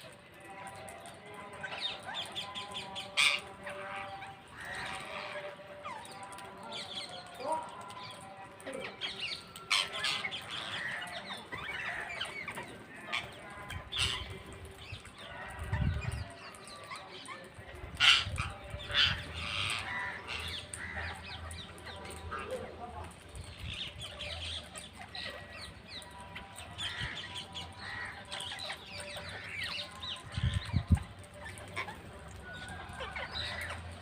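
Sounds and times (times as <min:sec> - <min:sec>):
parrots squawking and chattering: 0:00.0 - 0:34.0.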